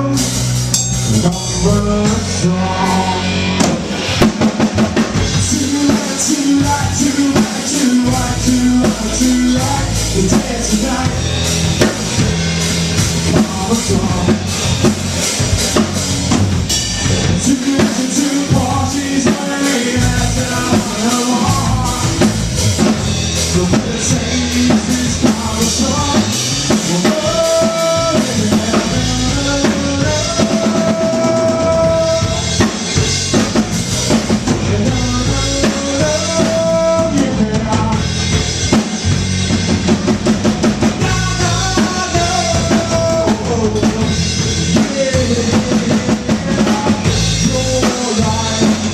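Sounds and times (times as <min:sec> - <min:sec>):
drum kit beat: 0:00.0 - 0:48.9
live rock band playing: 0:00.0 - 0:48.9.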